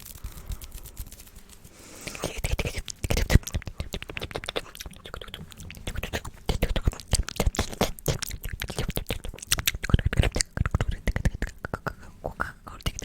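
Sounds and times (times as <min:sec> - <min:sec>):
wet mouth clicks and pops: 0:02.0 - 0:13.0.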